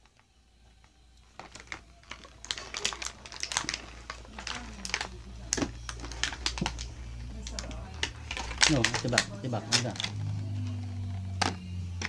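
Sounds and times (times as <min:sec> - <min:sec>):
plastic parts clicking and rattling: 0:01.2 - 0:12.0.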